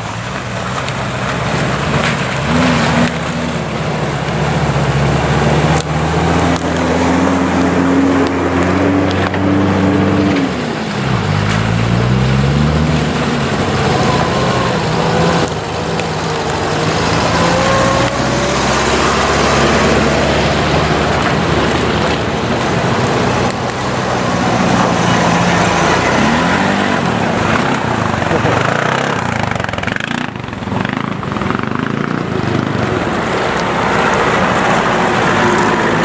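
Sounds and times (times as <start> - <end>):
off-road vehicle engine pulling: 0.0 - 36.0.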